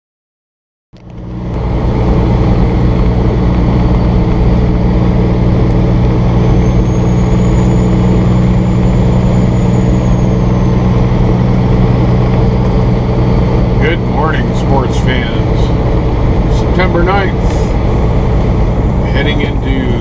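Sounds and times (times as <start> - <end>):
road noise: 1.0 - 20.0
truck diesel engine running: 1.0 - 20.0
faint high whine: 1.1 - 20.0.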